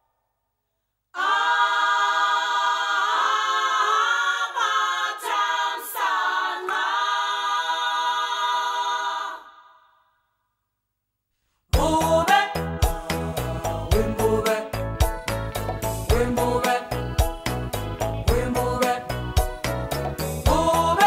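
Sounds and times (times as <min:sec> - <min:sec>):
a cappella choir singing: 0:01.1 - 0:10.1, 0:11.8 - 0:21.0.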